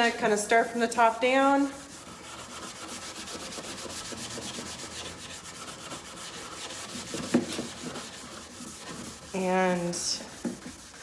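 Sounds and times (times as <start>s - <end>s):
pad rubbing on wood: 1.6s - 11.0s.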